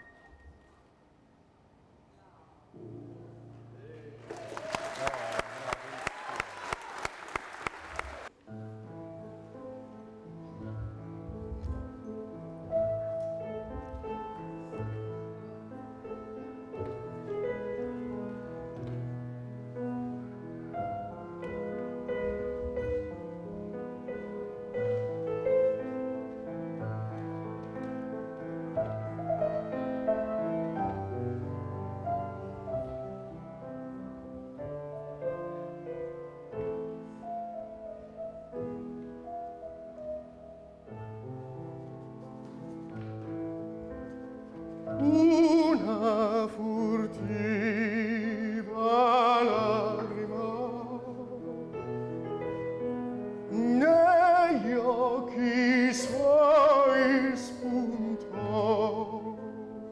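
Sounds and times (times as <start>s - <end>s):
grand piano classical piece: 0.0s - 59.9s.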